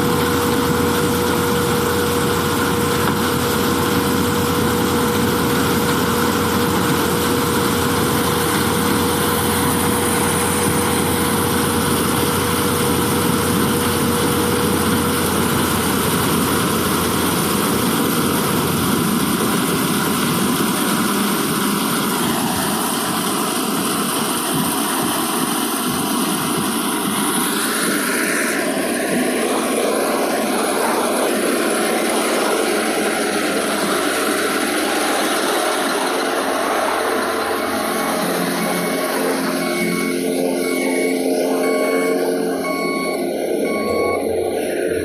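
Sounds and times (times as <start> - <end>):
corn thresher running: 0.0 - 45.0.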